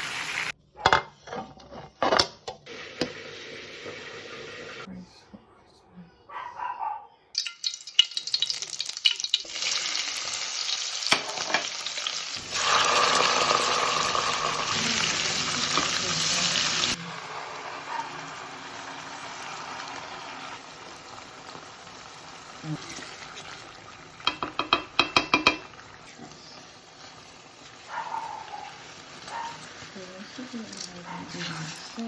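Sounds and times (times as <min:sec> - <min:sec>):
food sizzling in a pan: 0:00.0 - 0:00.6, 0:02.7 - 0:04.9, 0:07.4 - 0:32.0.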